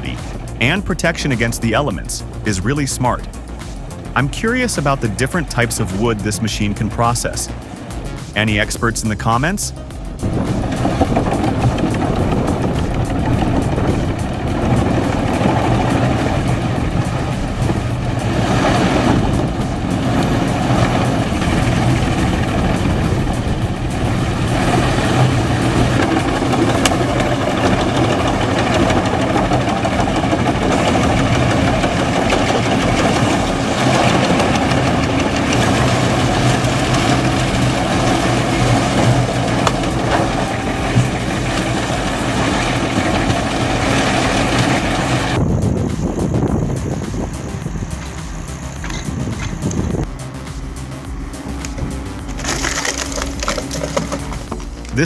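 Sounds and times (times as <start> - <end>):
wood chipper running: 9.2 - 55.0.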